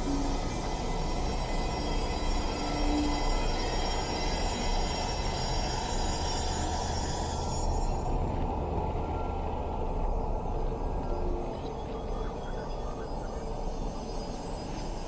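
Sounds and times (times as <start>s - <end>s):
dark ambient drone music: 0.0s - 15.0s.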